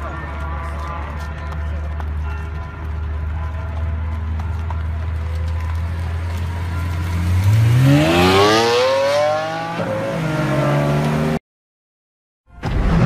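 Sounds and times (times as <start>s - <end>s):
car engine idling and revving: 0.0s - 11.4s.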